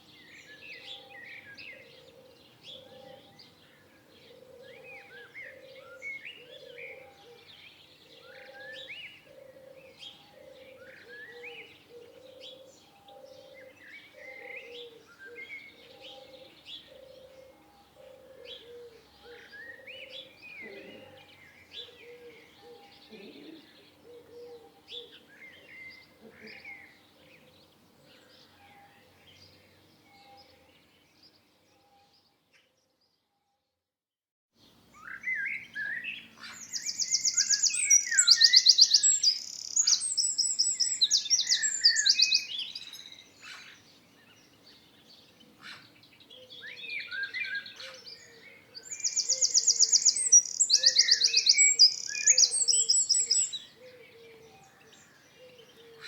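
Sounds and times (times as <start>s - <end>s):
songbirds singing with trills: 0.0s - 33.5s, 34.6s - 56.0s.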